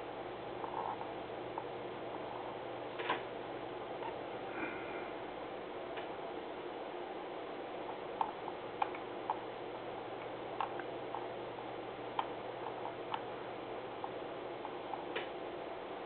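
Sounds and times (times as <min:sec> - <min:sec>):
faint room noise hiss: 0:00.0 - 0:16.0.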